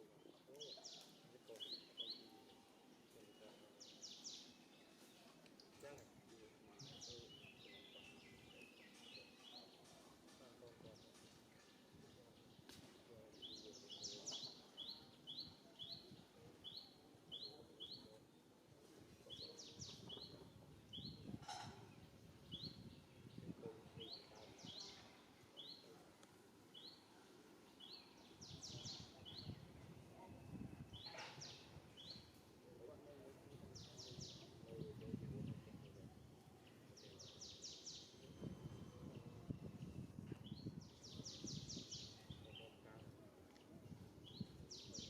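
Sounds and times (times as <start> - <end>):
songbird chirping: 0.0 - 45.0.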